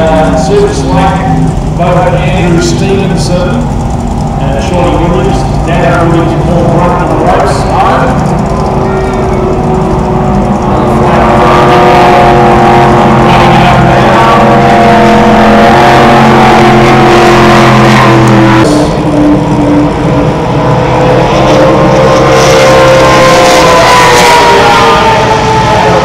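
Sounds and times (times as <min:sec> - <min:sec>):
boat engines running flat out: 0:00.0 - 0:26.0.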